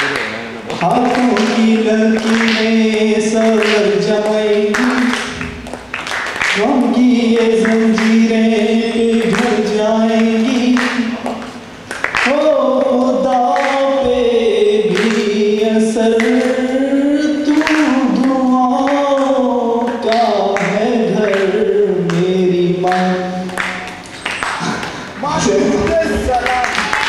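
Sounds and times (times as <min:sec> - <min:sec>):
man singing unaccompanied: 0:00.0 - 0:05.6, 0:06.4 - 0:11.5, 0:12.1 - 0:24.0.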